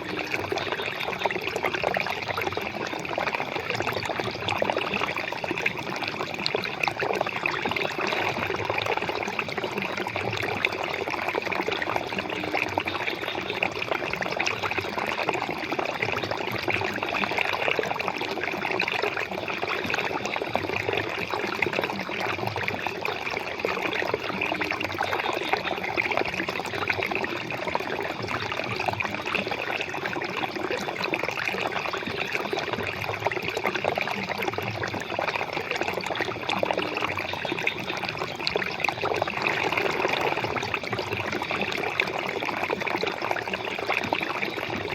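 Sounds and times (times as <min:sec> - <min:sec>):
flowing water: 0:00.0 - 0:44.9.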